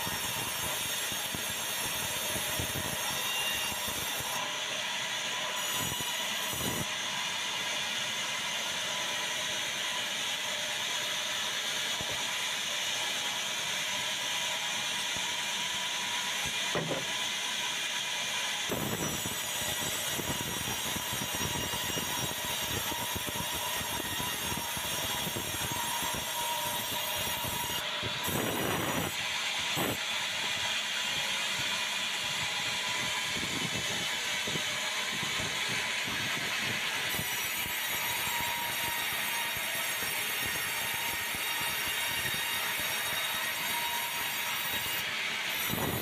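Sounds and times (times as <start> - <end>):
band saw cutting log: 0.0 - 7.4, 8.3 - 46.0.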